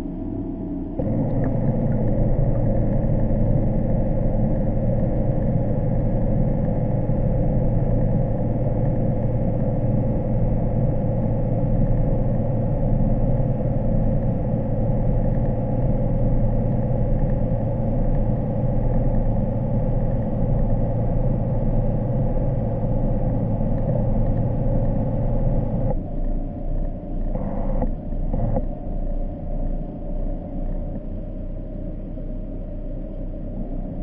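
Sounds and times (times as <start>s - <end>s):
underwater craft motor hum: 0.0s - 34.0s.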